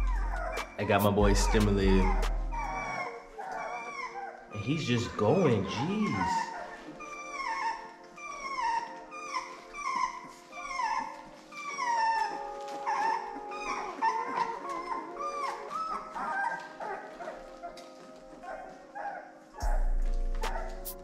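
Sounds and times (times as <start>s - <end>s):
background music: 0.0s - 21.0s
puppy whining cries: 0.0s - 21.0s.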